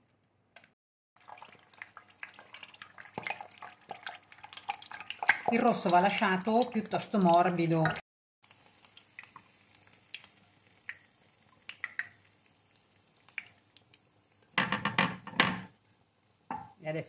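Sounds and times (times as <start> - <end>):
oil crackling in a frying pan: 1.2 - 17.0.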